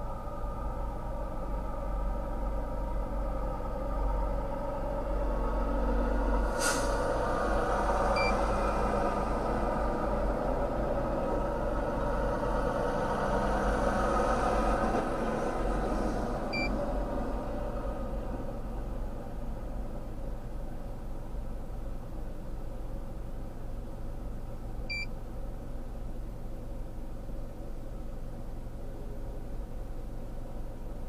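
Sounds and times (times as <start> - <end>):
vehicle engine rumble: 0.0 - 31.0.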